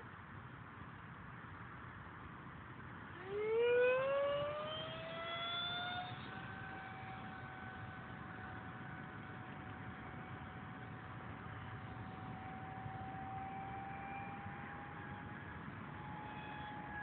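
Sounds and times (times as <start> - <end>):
model jet engine whine: 3.0 - 17.0.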